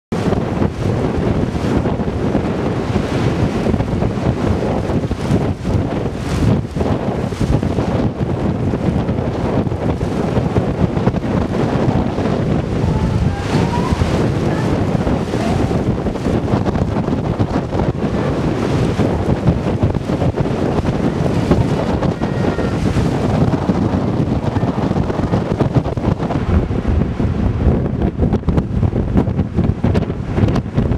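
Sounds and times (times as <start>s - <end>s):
heavy surf: 0.1s - 30.9s
wind buffeting microphone: 0.1s - 30.9s.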